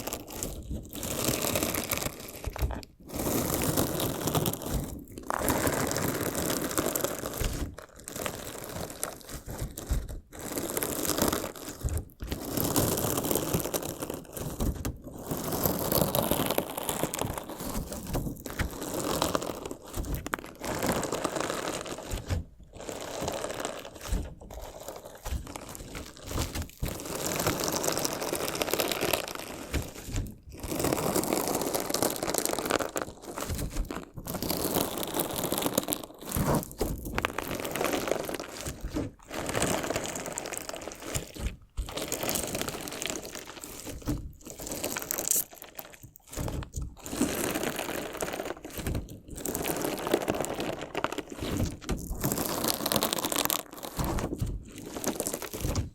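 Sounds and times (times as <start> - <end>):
crunchy slime crackling: 0.0 - 55.9.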